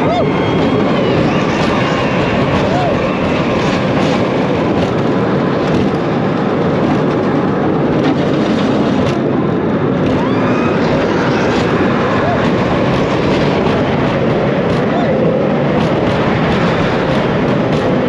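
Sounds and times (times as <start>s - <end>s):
roller coaster wheels rumbling: 0.0s - 18.0s
wind rushing on microphone: 0.0s - 18.0s.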